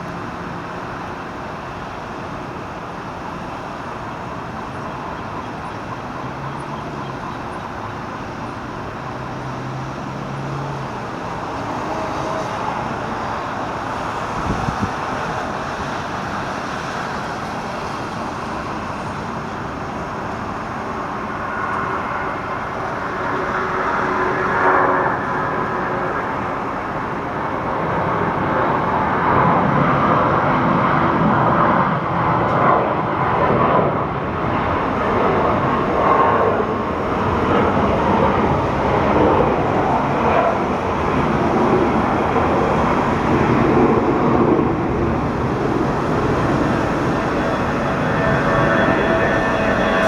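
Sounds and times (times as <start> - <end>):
engine and traffic noise: 0.0 - 50.0.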